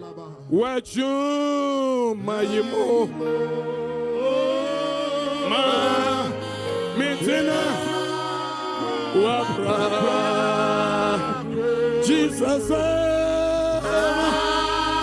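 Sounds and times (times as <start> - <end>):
gospel voices singing: 0.0 - 15.0
long held chords: 2.0 - 15.0.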